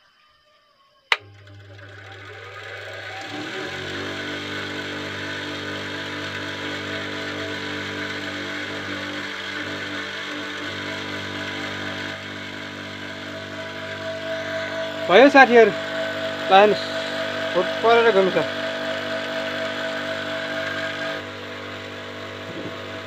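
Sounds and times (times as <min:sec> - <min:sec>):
bench grinder running: 0:01.1 - 0:23.0.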